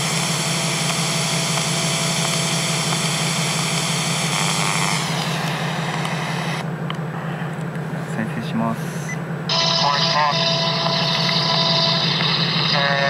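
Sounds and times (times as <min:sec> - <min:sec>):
high whine: 0:00.0 - 0:13.0
truck engine idling: 0:00.0 - 0:13.0.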